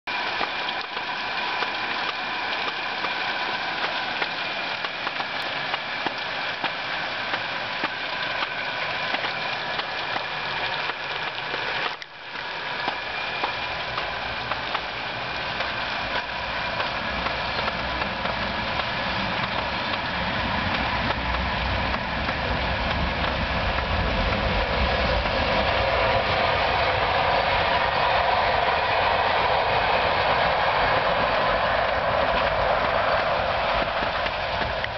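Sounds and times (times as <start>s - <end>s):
steady rain falling: 0.1s - 34.9s
train rumbling past: 0.1s - 34.9s.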